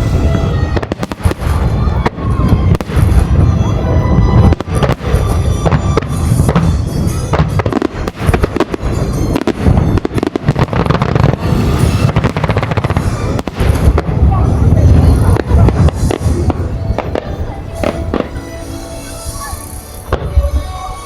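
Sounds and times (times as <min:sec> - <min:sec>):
firework booms and crackling: 0:00.0 - 0:21.0
music playing: 0:00.0 - 0:21.0.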